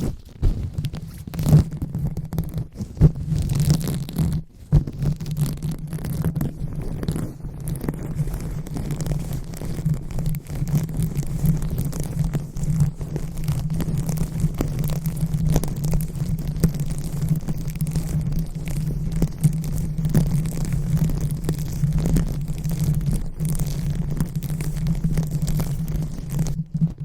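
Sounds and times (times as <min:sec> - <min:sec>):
fingers rubbing on microphone: 0:00.0 - 0:27.0.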